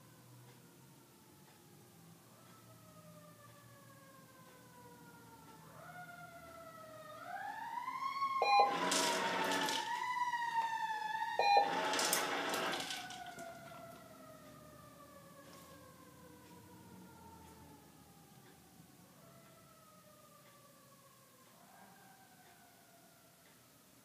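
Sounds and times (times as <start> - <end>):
emergency vehicle siren wailing: 0.0 - 24.0.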